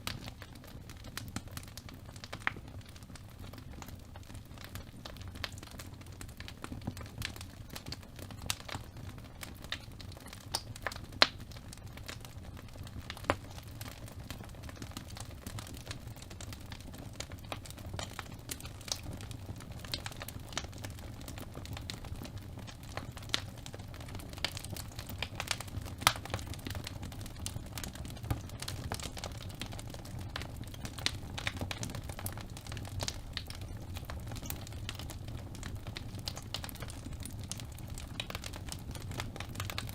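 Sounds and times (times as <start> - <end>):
fire crackling and popping: 0.0 - 39.9
low steady fire rumble: 0.0 - 39.9.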